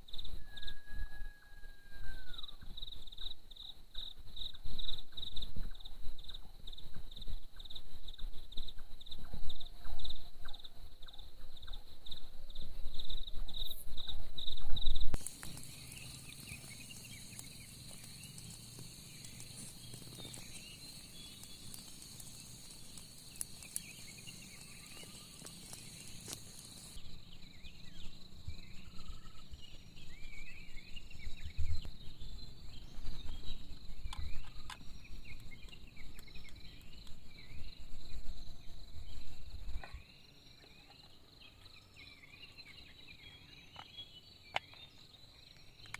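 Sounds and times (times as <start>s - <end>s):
high insect drone: 0.0s - 45.9s
insect chirping calls: 0.0s - 45.9s.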